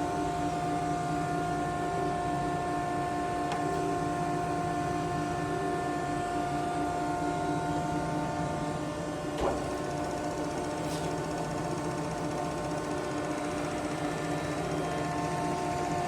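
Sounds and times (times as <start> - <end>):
grinder machine humming: 0.0 - 16.0.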